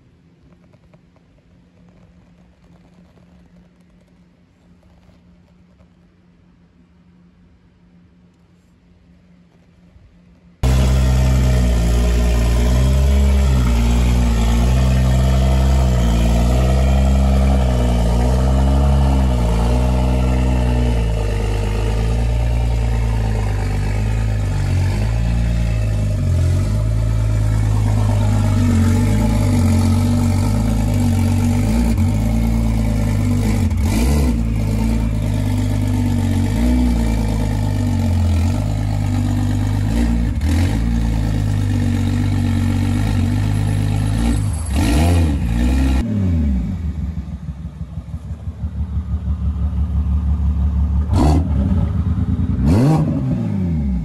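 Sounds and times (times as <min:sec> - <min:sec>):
turbo engine idling: 0:10.2 - 0:54.0.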